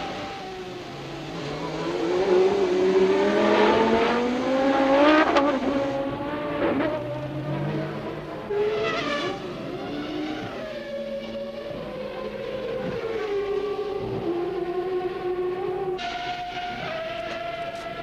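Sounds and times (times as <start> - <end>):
racing car engine at full throttle: 0.0 - 18.0.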